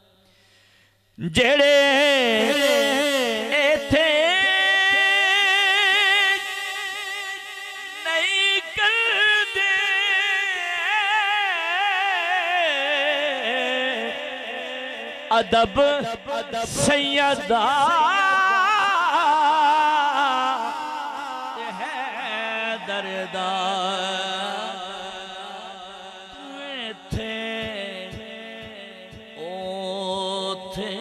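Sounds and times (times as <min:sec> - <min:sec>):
man singing unaccompanied: 0:01.2 - 0:31.0.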